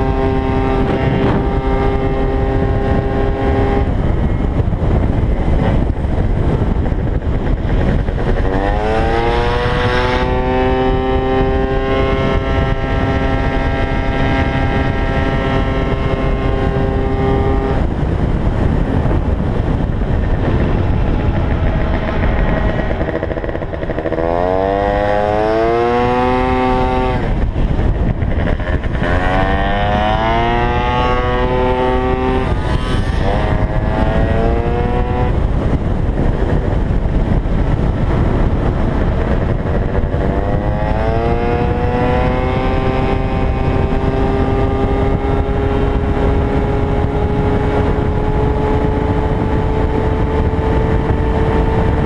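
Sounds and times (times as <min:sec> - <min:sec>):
scooter engine at full throttle: 0:00.0 - 0:52.0
wind rumble: 0:00.0 - 0:52.0.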